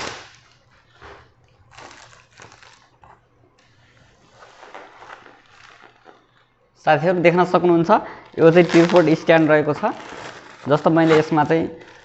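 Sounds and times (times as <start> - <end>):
packaging rustling and crinkling: 0.0 - 6.6, 7.9 - 12.0.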